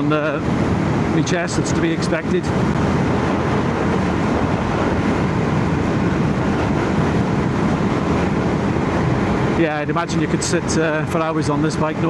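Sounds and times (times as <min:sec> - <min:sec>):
motorcycle engine drone: 0:00.0 - 0:12.0
wind rush in helmet: 0:00.0 - 0:12.0.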